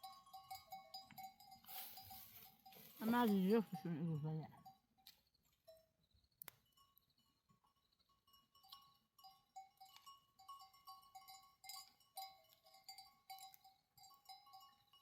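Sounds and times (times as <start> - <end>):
sheep bells clinking: 0.0 - 15.0.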